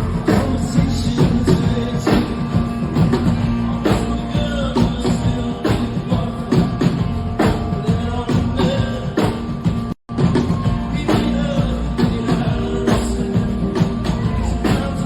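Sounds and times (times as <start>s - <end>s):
person singing: 0.0s - 9.8s, 10.4s - 15.0s
drum beats: 0.0s - 15.0s
rock band playing: 0.0s - 15.0s
sustained guitar: 0.0s - 15.0s.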